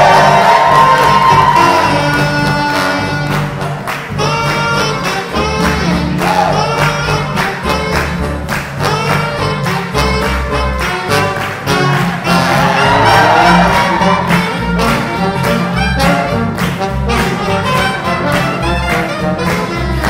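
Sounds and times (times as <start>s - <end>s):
jazz band playing swing: 0.0s - 20.0s.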